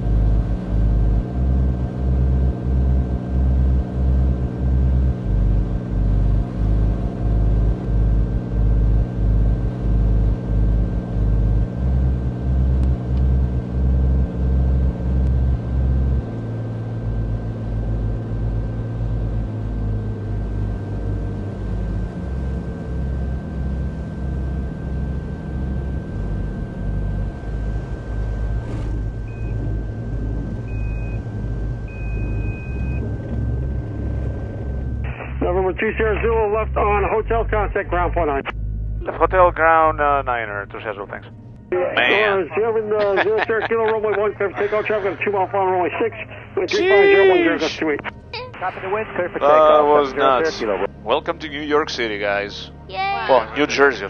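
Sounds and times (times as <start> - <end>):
aircraft engine pulsing rumble: 0.0 - 54.0.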